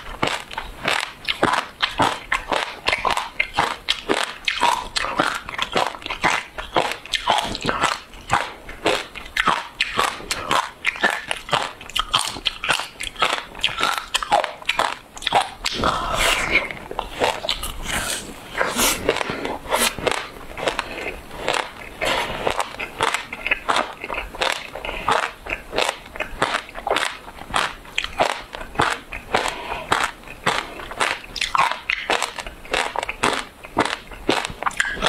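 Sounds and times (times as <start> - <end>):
chewing icy frozen fruit: 0.0 - 35.0.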